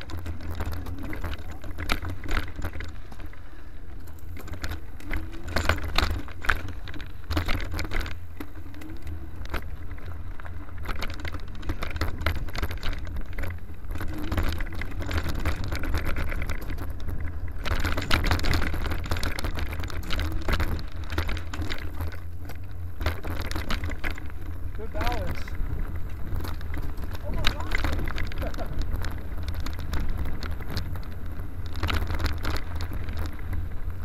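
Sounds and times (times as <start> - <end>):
bike and camera mount rattling: 0.0 - 34.0
bike rolling over dirt trail: 0.0 - 34.0.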